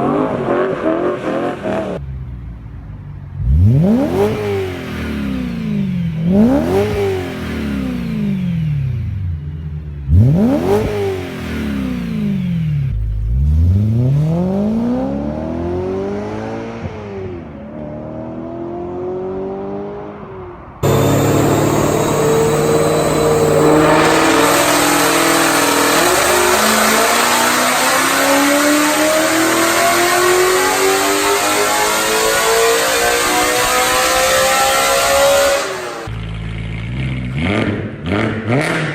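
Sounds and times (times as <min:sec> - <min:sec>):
car engine revving: 0:03.3 - 0:38.9
car accelerating hard: 0:03.4 - 0:08.9, 0:10.1 - 0:36.2.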